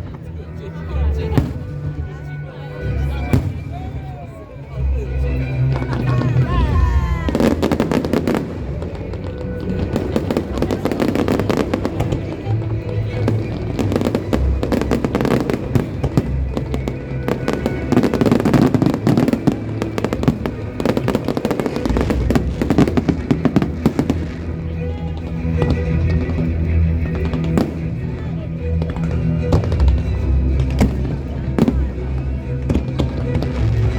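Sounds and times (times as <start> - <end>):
fireworks bangs and crackles: 1.1 - 2.2, 3.1 - 4.2, 5.6 - 33.9.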